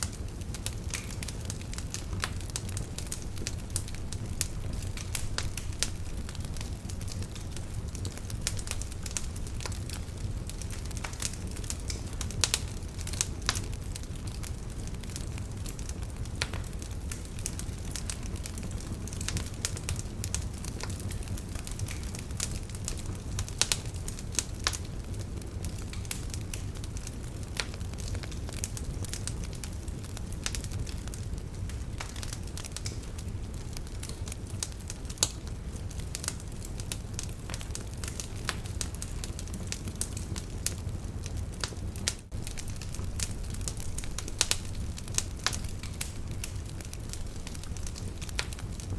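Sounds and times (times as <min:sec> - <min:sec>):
logs crackling and popping: 0:00.0 - 0:48.9
low rumble of flames: 0:00.0 - 0:48.9.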